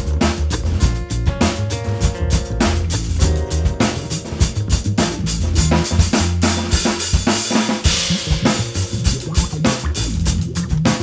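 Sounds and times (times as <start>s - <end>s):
drum kit beat: 0.0s - 11.0s
upright bass: 0.0s - 11.0s.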